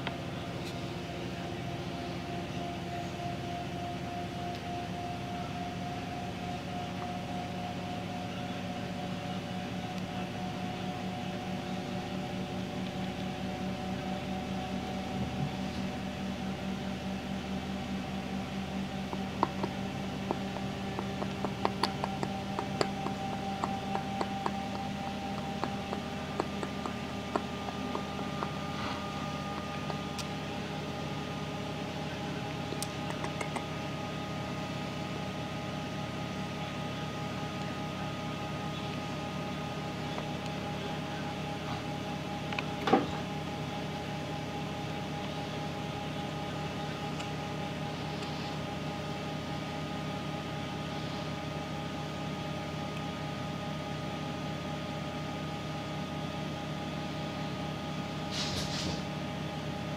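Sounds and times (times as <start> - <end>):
hum of held tones: 0.0 - 59.9.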